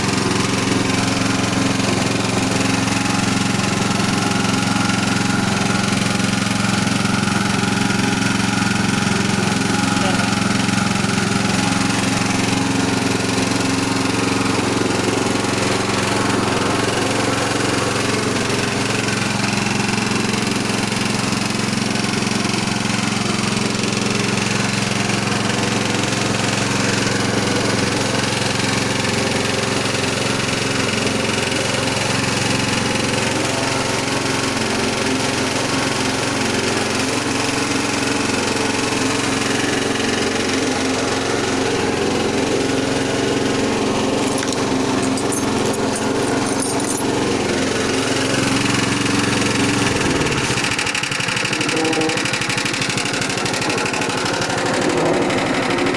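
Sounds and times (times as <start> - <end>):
press machine motor humming: 0.0 - 35.3, 37.0 - 55.9.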